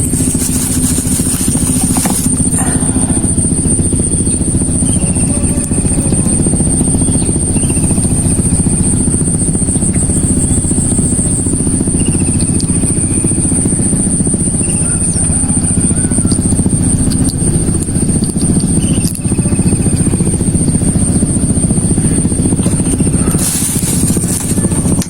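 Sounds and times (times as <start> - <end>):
constant high whine: 0.0 - 25.0
small engine running: 0.0 - 25.0.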